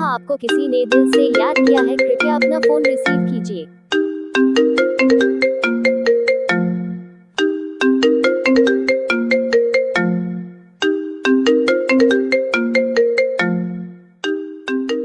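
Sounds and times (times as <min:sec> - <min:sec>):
mobile phone ringtone melody: 0:00.0 - 0:15.0.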